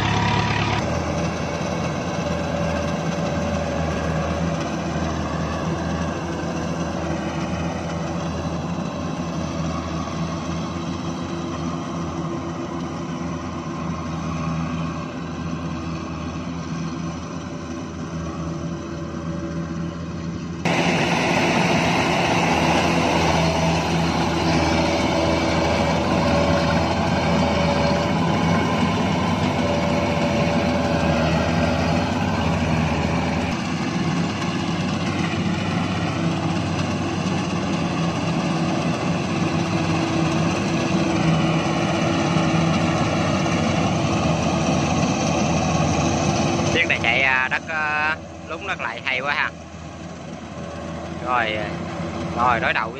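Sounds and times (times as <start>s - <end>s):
combine harvester diesel engine: 0.0s - 52.9s
machinery whirring: 0.0s - 52.9s.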